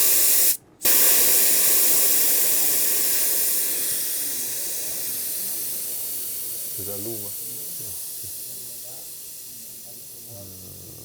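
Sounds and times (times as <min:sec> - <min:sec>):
air hissing from tyre valve: 0:00.0 - 0:11.0.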